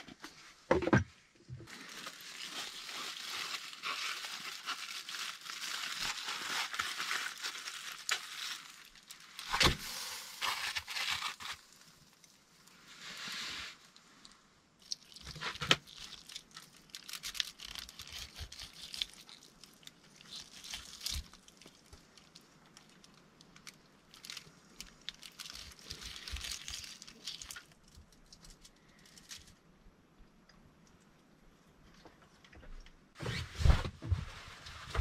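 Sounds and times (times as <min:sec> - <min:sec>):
crackling and rustling: 0:00.0 - 0:29.7, 0:30.4 - 0:35.0.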